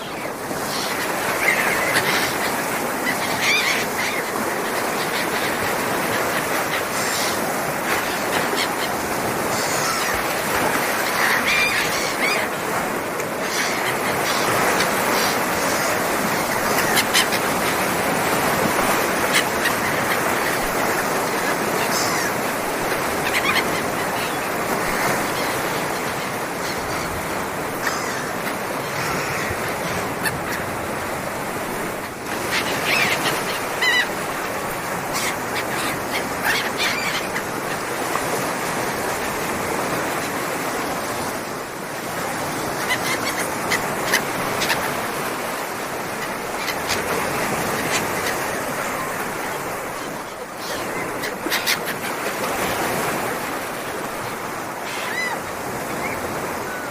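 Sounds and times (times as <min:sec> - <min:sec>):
bird calls: 0:00.0 - 0:38.9, 0:42.4 - 0:56.9
sea waves washing: 0:00.0 - 0:56.9.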